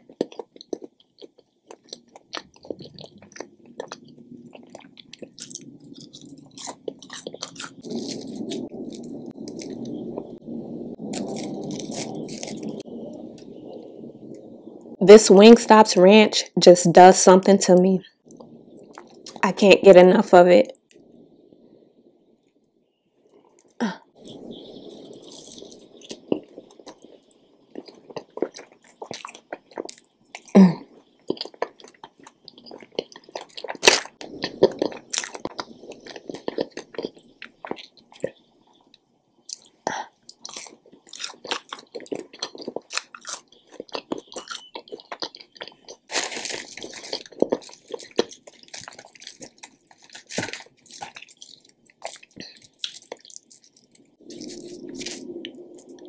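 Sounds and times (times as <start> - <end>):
person chewing crunchy fries: 0.0 - 13.7, 18.2 - 19.5, 23.4 - 56.0.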